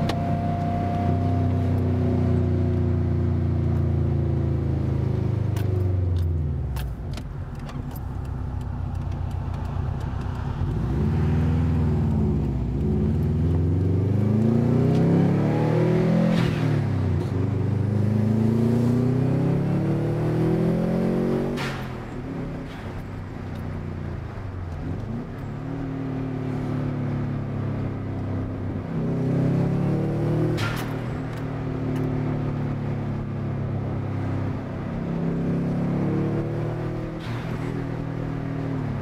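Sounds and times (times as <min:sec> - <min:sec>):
car engine from inside cabin: 0:00.0 - 0:22.8, 0:23.6 - 0:39.0.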